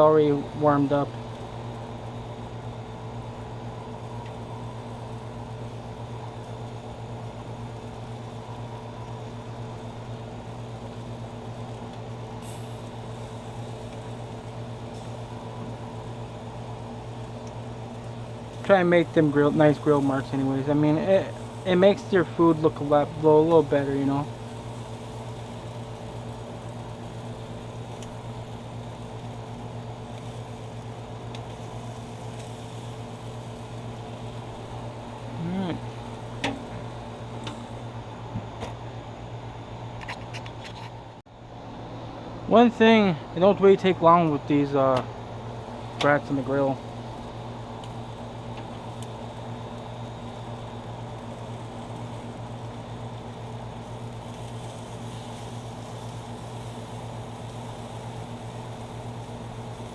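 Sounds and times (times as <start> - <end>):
faint hiss: 0.0 - 38.2, 42.3 - 59.9
low machine hum: 0.0 - 59.9.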